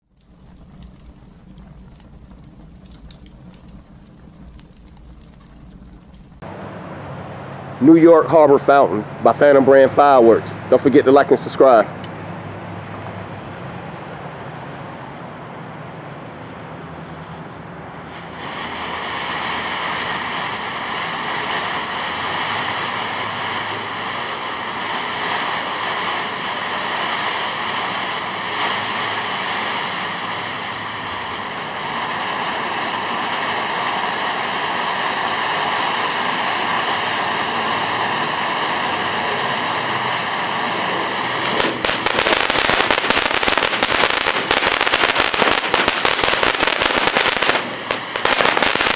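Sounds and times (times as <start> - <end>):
fountain firework hissing: 0.0 - 6.4, 12.6 - 16.2, 18.0 - 48.9.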